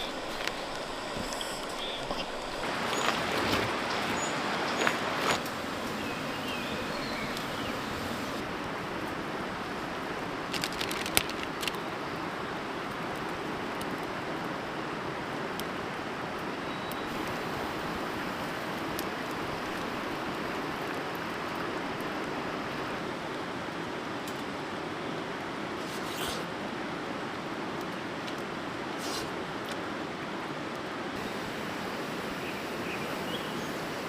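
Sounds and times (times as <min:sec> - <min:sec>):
river water flowing: 0:00.0 - 0:25.8, 0:26.5 - 0:34.0.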